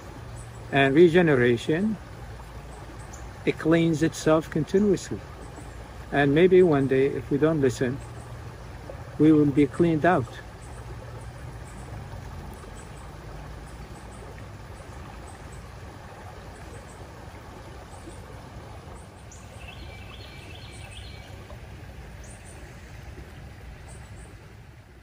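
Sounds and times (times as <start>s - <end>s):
stream flowing: 0.0s - 25.0s.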